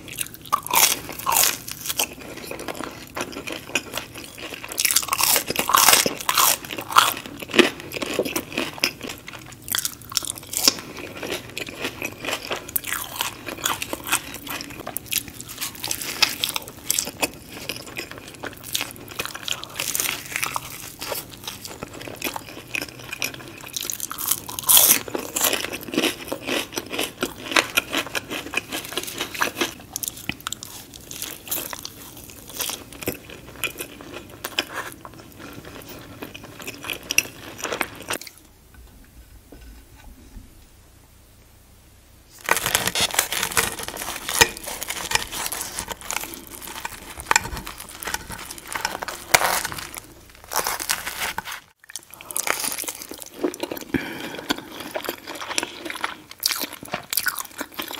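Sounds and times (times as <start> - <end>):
chewing: 0.0 - 38.5, 42.5 - 57.9
crunching bites: 0.2 - 34.8, 42.4 - 57.9.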